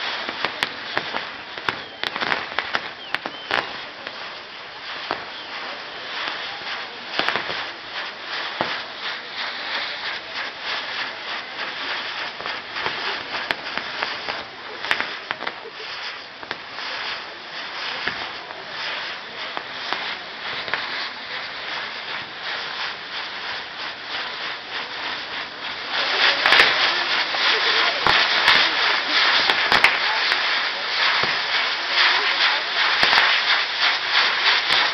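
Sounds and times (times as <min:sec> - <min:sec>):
crackling hissing firework sparks: 0:00.0 - 0:34.9
firework pops: 0:00.0 - 0:34.9.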